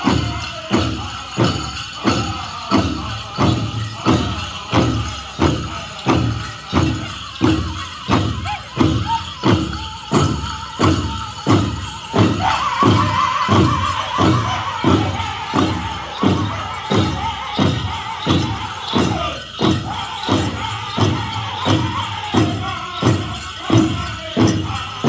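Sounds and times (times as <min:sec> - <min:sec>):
big drum steady beat: 0:00.0 - 0:25.0
group singing: 0:00.0 - 0:25.0.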